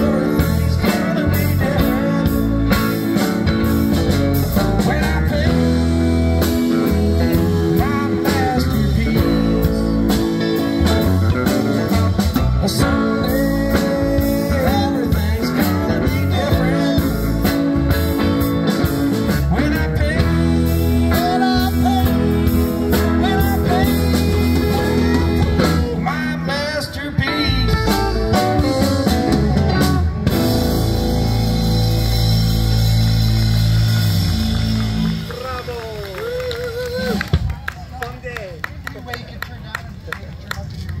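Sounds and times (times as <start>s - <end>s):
lead guitar bending notes: 0.0s - 26.5s, 27.2s - 35.3s
live rock band playing: 0.0s - 36.1s.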